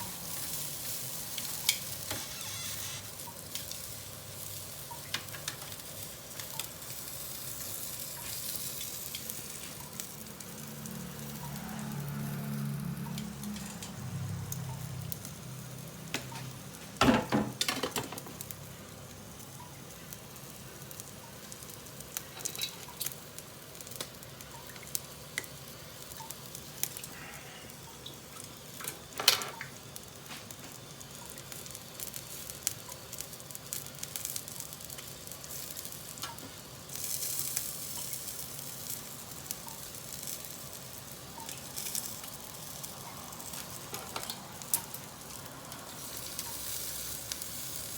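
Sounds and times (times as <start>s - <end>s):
skewers sizzling on a grill: 0.0s - 47.9s.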